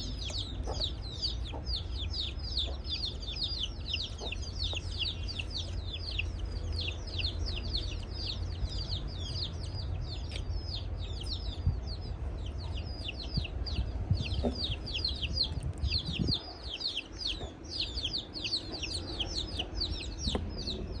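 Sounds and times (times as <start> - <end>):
low rumble: 0.0 - 21.0
small birds chirping: 0.0 - 21.0.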